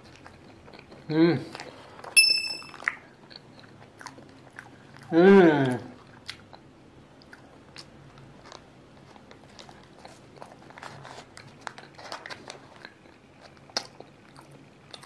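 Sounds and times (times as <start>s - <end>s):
crunching of crispy pastry: 2.7s - 15.0s.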